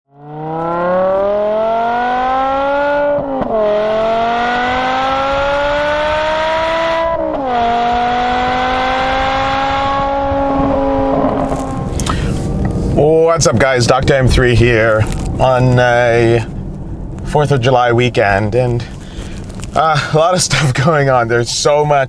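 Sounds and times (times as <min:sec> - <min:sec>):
car engine accelerating hard: 0:00.1 - 0:20.9.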